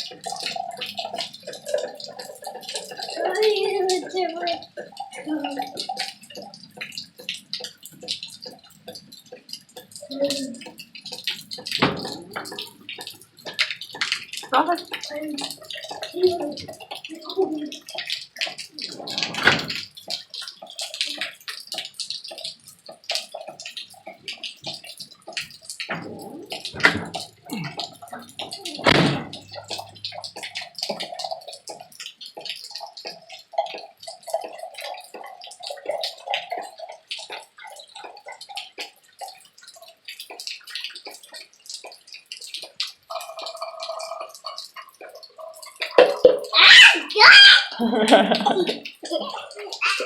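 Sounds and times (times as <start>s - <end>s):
rain falling: 0.0s - 50.0s
water drips and splashes: 0.0s - 50.0s.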